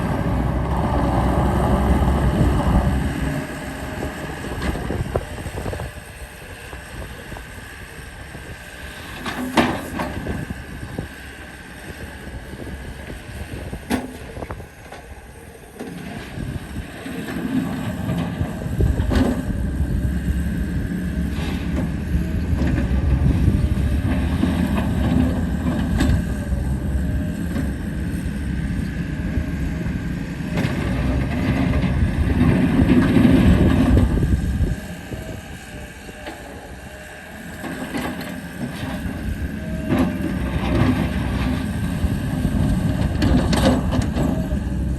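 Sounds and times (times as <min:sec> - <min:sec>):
diesel engine running: 0:00.0 - 0:44.9
steady high whine: 0:00.0 - 0:44.9.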